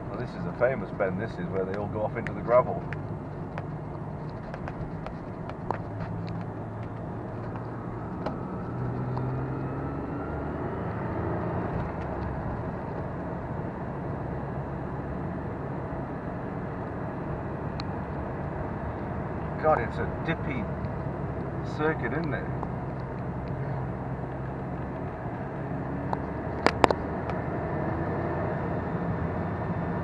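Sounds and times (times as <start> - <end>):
car engine accelerating: 0.0 - 30.0
tyre and road noise: 0.0 - 30.0.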